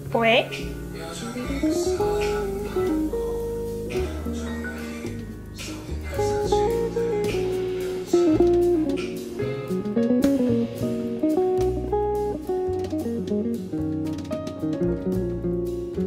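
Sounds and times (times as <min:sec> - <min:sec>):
low bass notes: 0:00.0 - 0:16.0
plucked guitar melody: 0:00.0 - 0:16.0.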